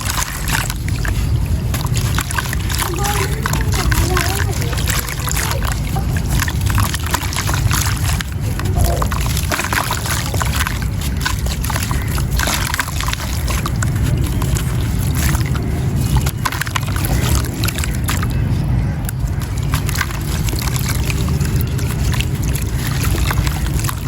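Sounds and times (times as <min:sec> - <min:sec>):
water sloshing: 0:00.0 - 0:24.0.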